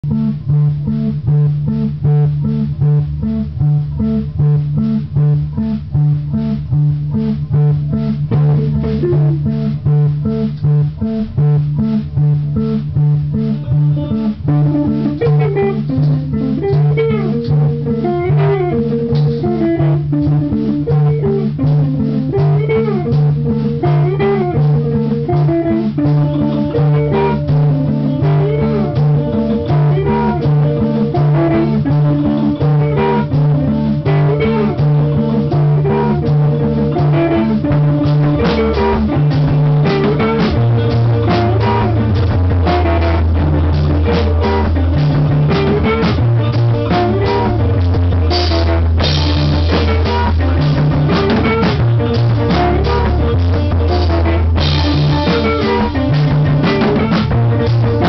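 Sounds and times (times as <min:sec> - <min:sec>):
lead guitar bending notes: 0:00.0 - 0:58.0
repeating bass line: 0:00.0 - 0:58.0
rhythm guitar: 0:00.0 - 0:58.0.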